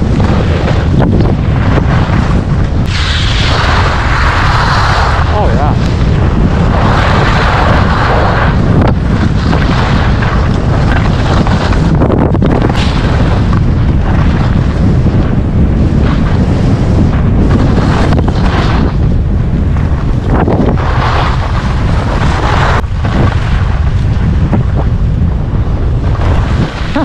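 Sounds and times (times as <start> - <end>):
skis scraping on snow: 0.0 - 24.9, 25.6 - 27.0
wind buffeting microphone: 0.0 - 27.0.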